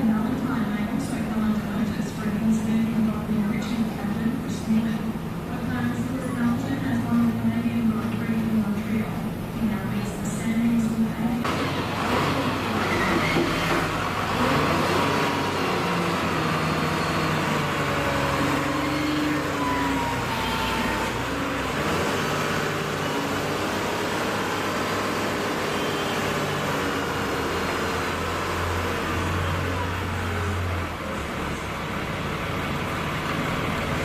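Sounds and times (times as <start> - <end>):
heavy diesel machinery running: 0.0 - 34.0.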